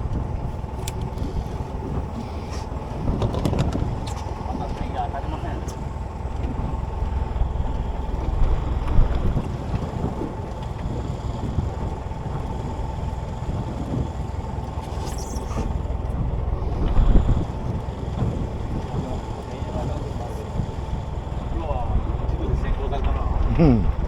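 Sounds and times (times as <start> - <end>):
boat engine rumble: 0.0 - 24.0
wind buffeting microphone: 0.0 - 24.0.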